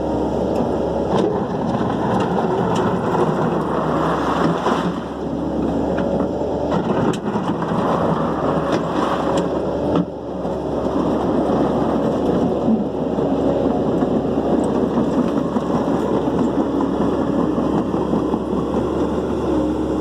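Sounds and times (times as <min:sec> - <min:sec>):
truck engine rumble: 0:00.0 - 0:20.0.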